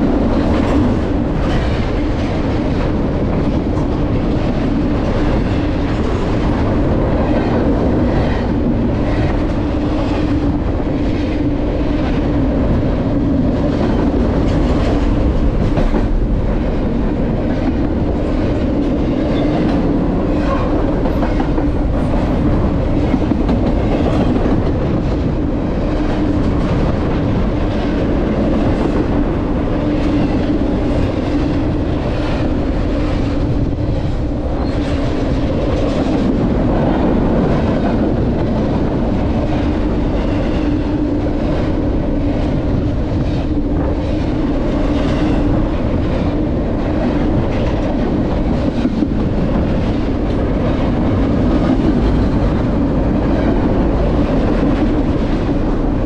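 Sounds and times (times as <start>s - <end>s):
train wheels rumbling on rail: 0.0s - 56.0s
clacks over rail joints: 0.2s - 29.2s, 29.8s - 56.0s.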